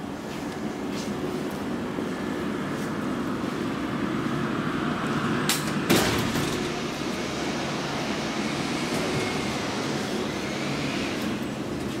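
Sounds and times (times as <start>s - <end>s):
outdoor rumble: 1.5s - 12.0s.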